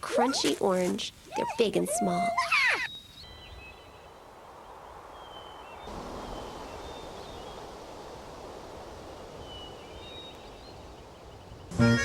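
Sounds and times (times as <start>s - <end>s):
breeze through grass: 0.0s - 12.0s
faint distant bird chirps: 1.2s - 12.0s.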